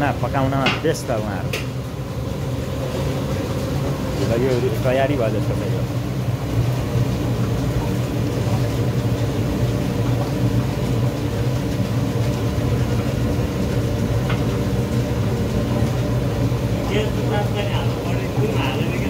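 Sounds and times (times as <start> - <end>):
chicken deep-frying in oil: 0.0 - 19.0.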